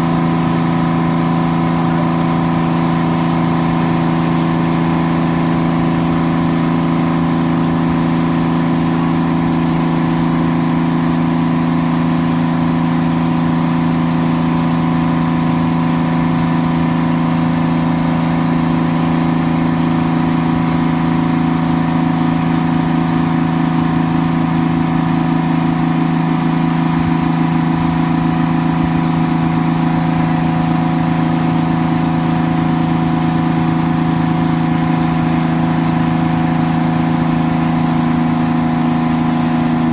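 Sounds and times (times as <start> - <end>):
crane engine running steadily: 0.0 - 39.9.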